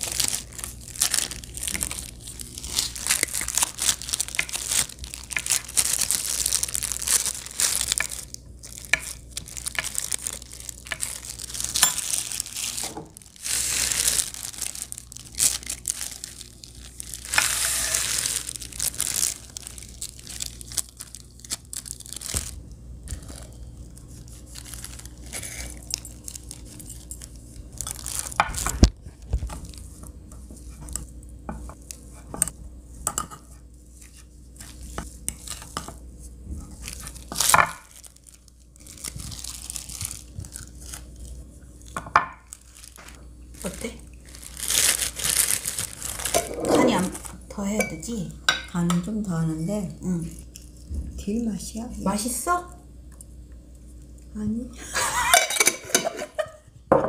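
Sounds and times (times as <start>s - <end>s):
plastic gloves crinkling: 0.0s - 52.7s.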